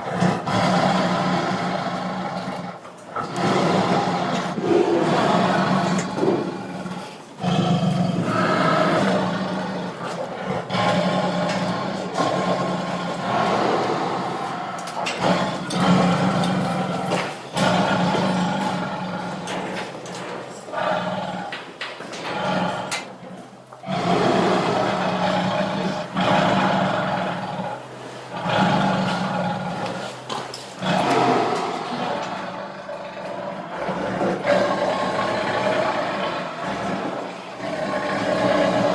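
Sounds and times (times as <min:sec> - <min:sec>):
tiger growling and roaring: 0:00.0 - 0:38.9.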